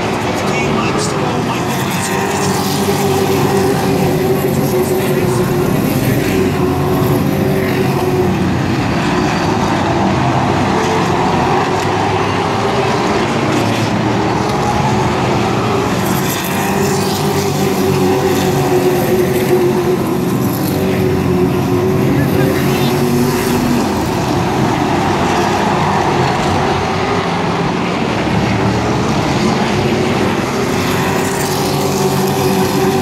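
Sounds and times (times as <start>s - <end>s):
race truck engines running together: 0.0s - 33.0s.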